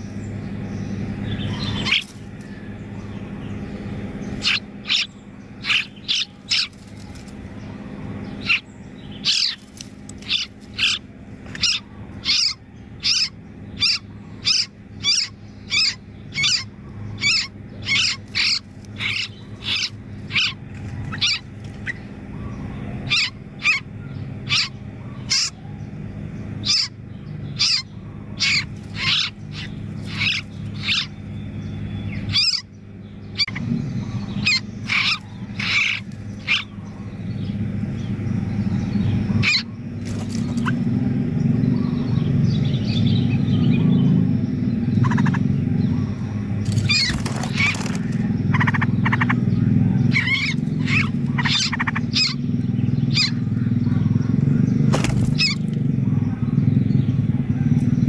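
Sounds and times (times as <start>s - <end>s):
chicks giving high sharp calls: 0.0s - 58.0s
steady low hum: 0.0s - 58.0s.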